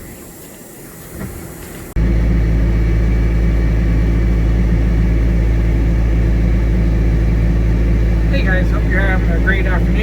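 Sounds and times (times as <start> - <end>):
heavy engine droning: 1.9 - 10.0.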